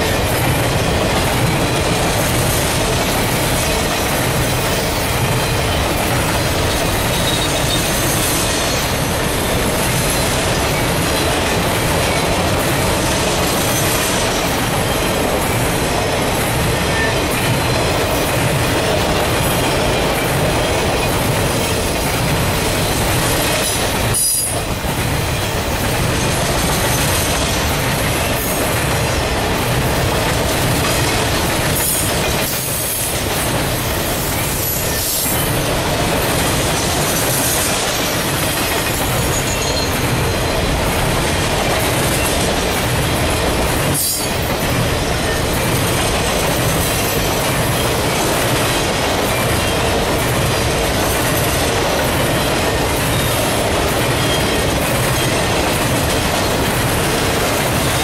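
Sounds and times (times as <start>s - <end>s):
train wheels squealing: 0.0s - 24.7s, 30.7s - 41.2s, 43.7s - 58.0s
freight train rumbling past: 0.0s - 58.0s.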